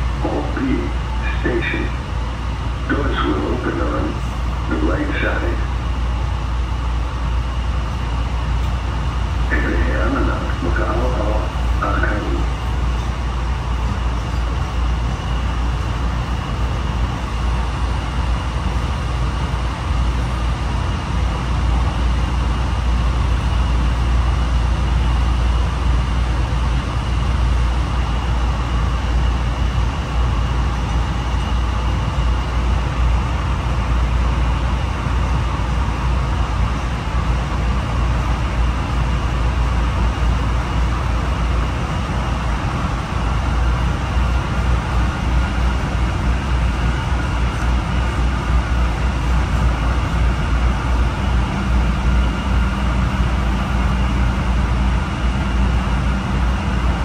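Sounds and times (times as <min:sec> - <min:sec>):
rail car wheels rumbling: 0:00.0 - 0:57.0.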